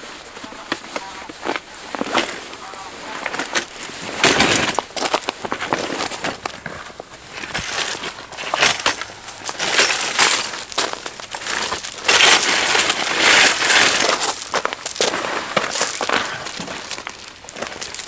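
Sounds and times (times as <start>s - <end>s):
rustling handling noise: 0.0s - 18.0s.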